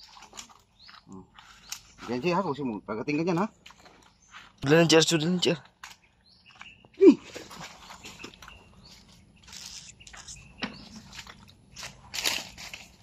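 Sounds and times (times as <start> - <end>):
hands squelching in wet mud: 0.0 - 2.6, 3.3 - 13.0.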